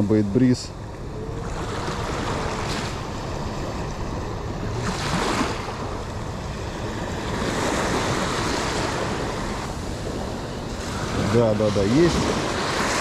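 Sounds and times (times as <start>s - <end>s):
low wind rumble on microphone: 0.0s - 13.0s
sea surf washing on shore: 0.0s - 13.0s.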